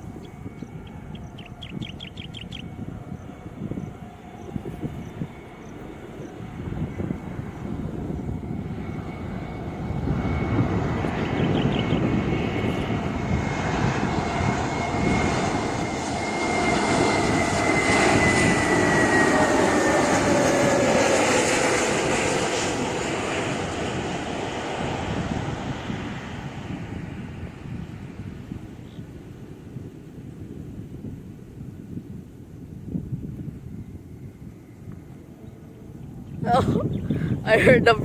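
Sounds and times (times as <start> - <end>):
jet airliner passing: 0.0 - 38.0.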